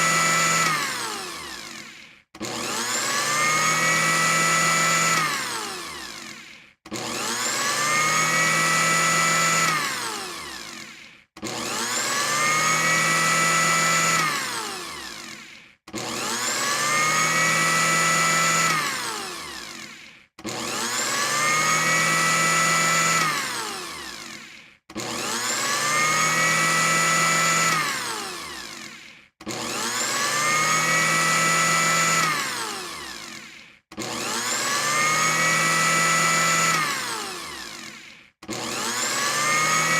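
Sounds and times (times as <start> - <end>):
blender motor whine: 0.0 - 39.9.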